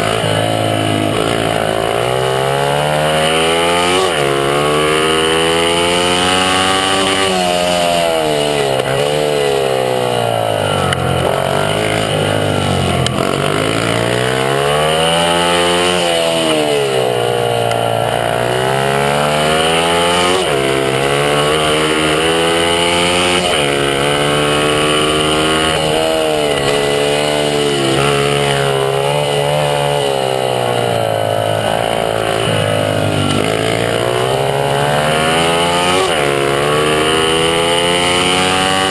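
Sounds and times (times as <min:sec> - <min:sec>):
small motorbike engine revving hard: 0:00.0 - 0:38.9.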